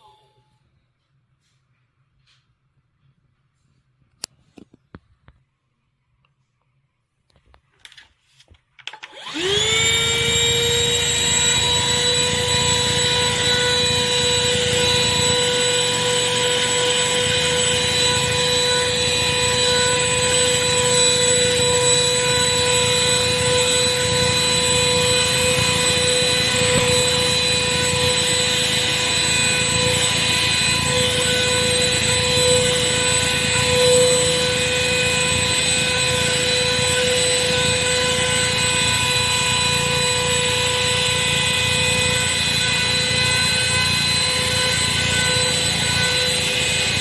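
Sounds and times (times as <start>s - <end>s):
handheld vacuum motor whine: 8.8s - 47.0s.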